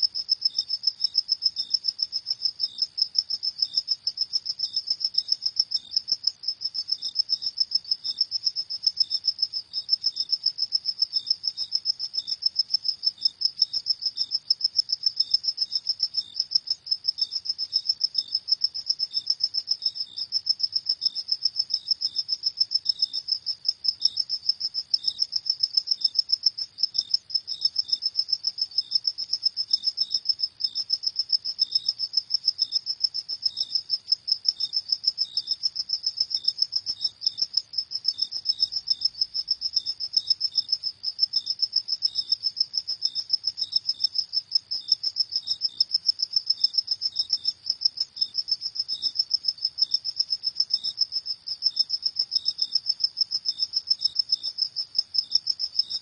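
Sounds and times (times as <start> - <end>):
crickets chirping chorus: 0.0 - 56.0
lower-pitched cricket chirping: 0.0 - 56.0.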